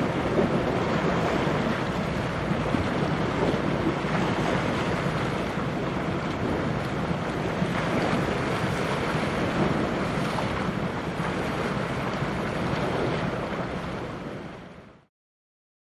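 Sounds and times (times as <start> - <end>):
wind buffeting microphone: 0.0 - 14.9
choppy sea water: 0.0 - 15.1.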